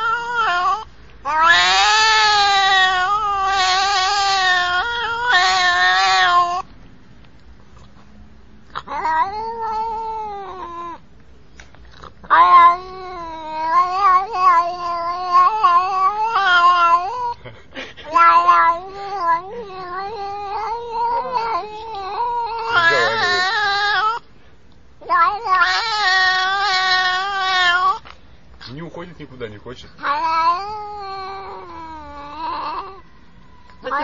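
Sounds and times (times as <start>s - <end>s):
cat yowling: 0.0s - 6.7s, 8.7s - 11.0s, 12.2s - 17.4s, 18.1s - 24.2s, 25.0s - 28.1s, 30.0s - 34.0s.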